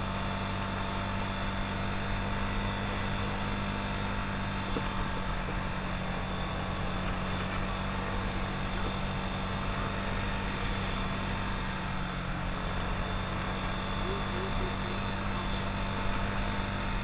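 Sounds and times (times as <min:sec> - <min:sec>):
atv engine droning: 0:00.0 - 0:17.0.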